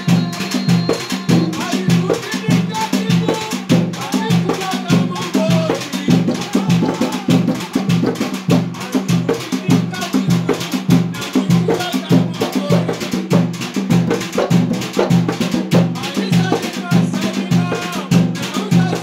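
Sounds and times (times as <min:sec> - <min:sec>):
drums beaten steadily: 0:00.0 - 0:19.0.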